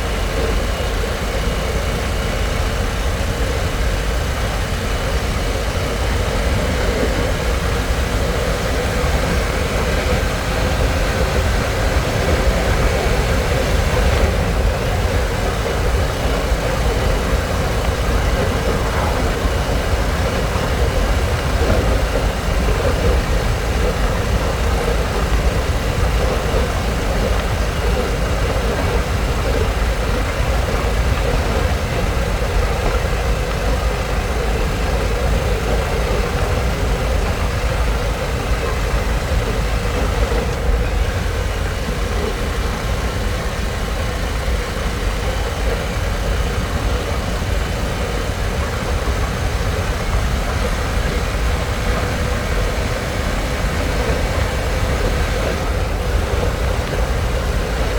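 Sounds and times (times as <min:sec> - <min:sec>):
wind rushing on microphone: 0:00.0 - 0:57.9.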